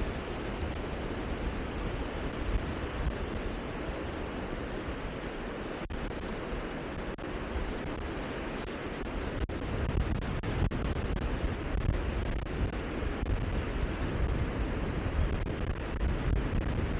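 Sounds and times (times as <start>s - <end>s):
wind blowing: 0.0s - 16.9s
wind buffeting microphone: 0.0s - 16.9s.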